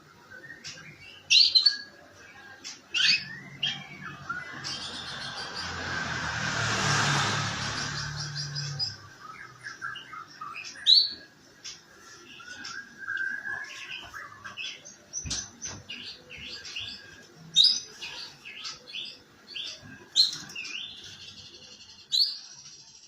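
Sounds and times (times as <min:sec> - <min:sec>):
canary singing: 0:00.1 - 0:06.2, 0:07.6 - 0:23.0.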